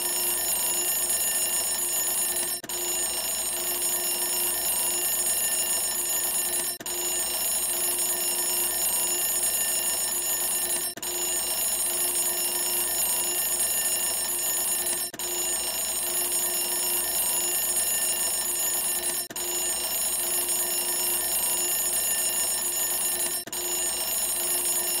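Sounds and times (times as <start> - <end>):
timer alarm ringing: 0.0 - 25.0.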